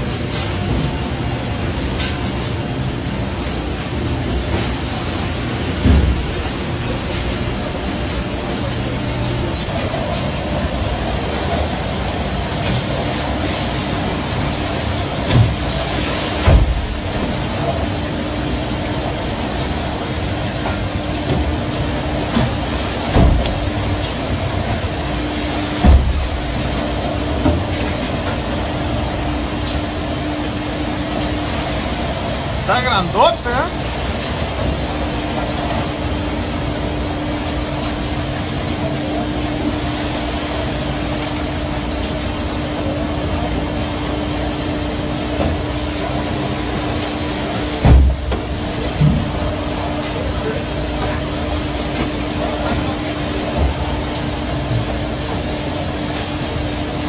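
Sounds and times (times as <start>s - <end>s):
boat engine hum: 0.0s - 57.0s
rough sea churning: 9.8s - 57.0s.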